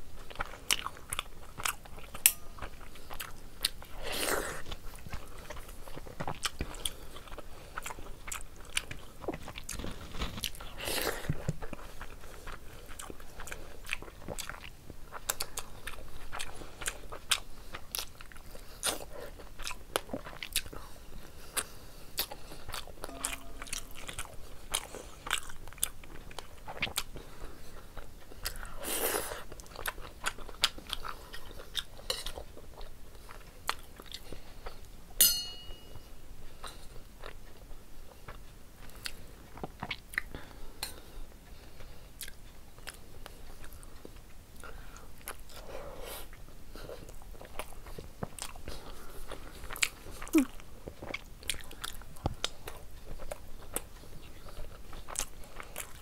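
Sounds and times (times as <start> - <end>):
chewing food: 0.0 - 35.0, 36.4 - 56.0.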